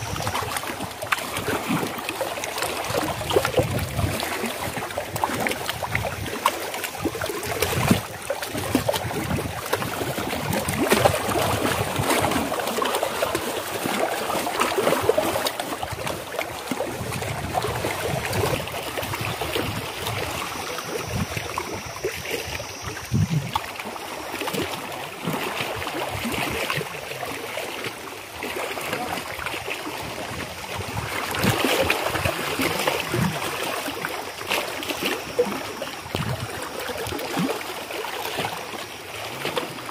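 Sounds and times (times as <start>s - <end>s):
waves splashing against rocks: 0.0s - 39.9s.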